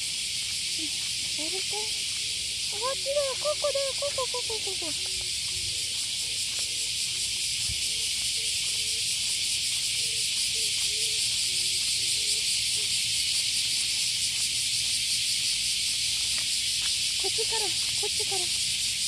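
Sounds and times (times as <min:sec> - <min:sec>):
cicadas shrilling: 0:00.0 - 0:19.0.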